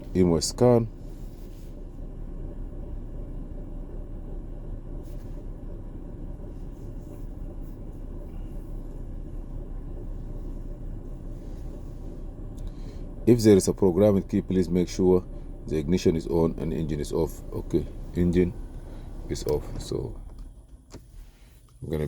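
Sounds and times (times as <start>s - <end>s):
minivan engine idling: 0.0s - 22.0s.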